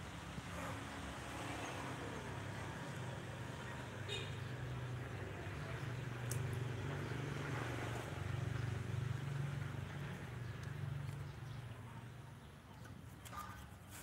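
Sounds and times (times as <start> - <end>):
engine humming: 0.0 - 12.6.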